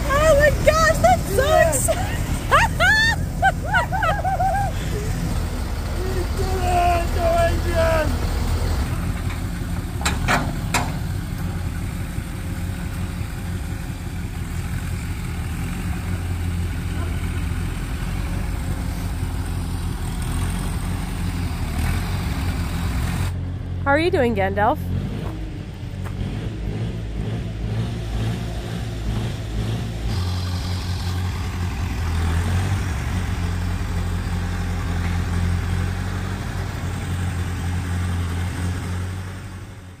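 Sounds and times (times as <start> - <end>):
tractor engine idling: 0.0 - 26.2, 30.0 - 40.0.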